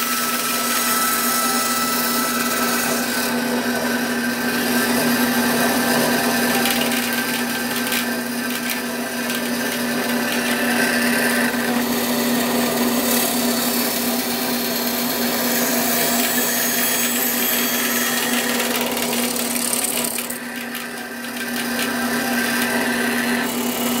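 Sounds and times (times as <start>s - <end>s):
bandsaw motor hum: 0.0s - 24.0s
saw blade cutting wood: 0.0s - 24.0s.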